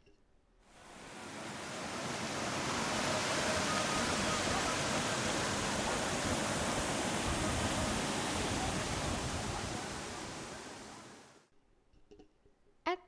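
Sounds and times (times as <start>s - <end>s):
waterfall rushing: 0.8s - 11.4s.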